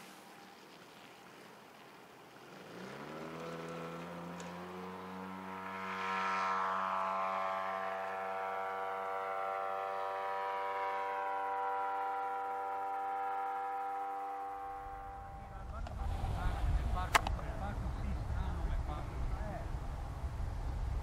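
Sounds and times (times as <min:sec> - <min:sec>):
model plane engine at full throttle: 0:02.4 - 0:20.9.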